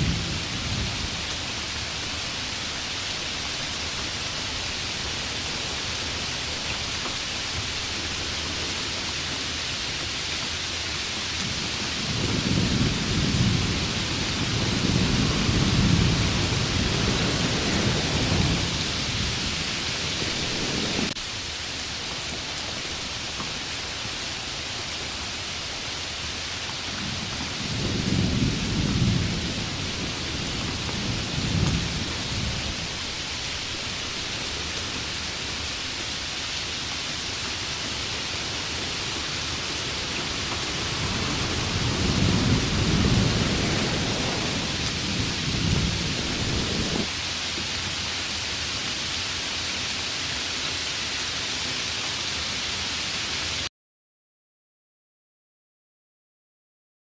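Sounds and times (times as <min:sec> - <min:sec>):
thunder rumbles: 0:00.0 - 0:21.2, 0:21.9 - 0:47.1
heavy rain hissing: 0:00.0 - 0:53.7.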